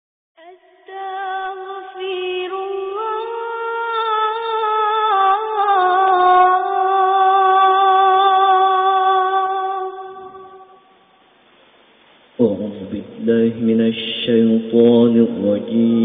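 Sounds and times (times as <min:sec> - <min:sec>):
high wordless voice singing: 0:00.4 - 0:10.9, 0:12.4 - 0:16.0.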